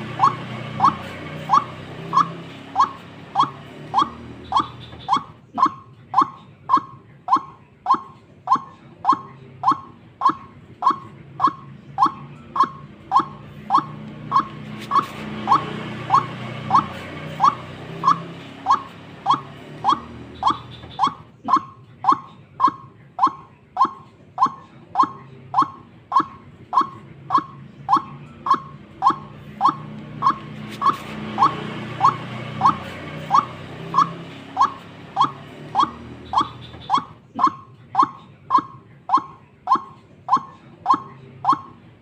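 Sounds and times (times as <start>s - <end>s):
waterhen calling: 0.0s - 41.8s.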